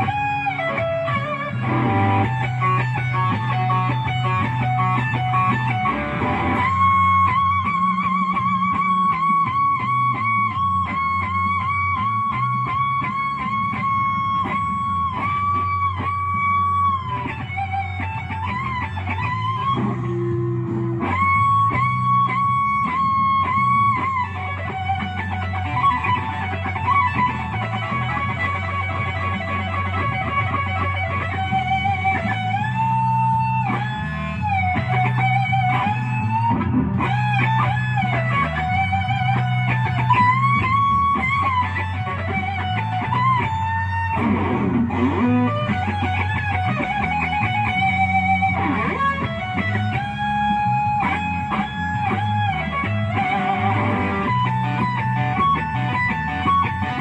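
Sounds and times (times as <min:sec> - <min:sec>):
bass line: 0:00.0 - 0:57.0
electric guitar blues lead: 0:00.0 - 0:57.0.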